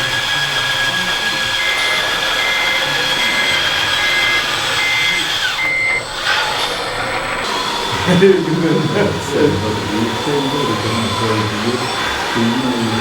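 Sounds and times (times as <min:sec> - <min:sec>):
electric whine of model machines: 0:00.0 - 0:13.0
reversing beeper: 0:00.0 - 0:13.0.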